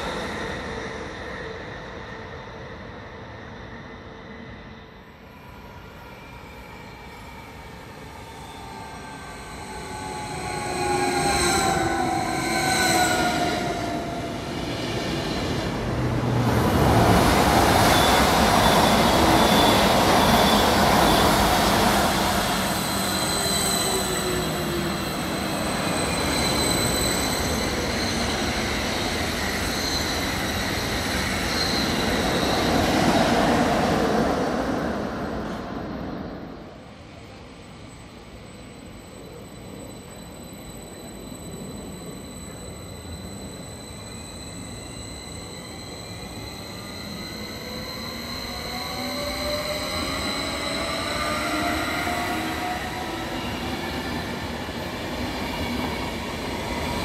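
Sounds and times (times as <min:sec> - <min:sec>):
electric train whine: 0:00.0 - 0:57.0
train wheels rushing on rails: 0:06.6 - 0:57.0.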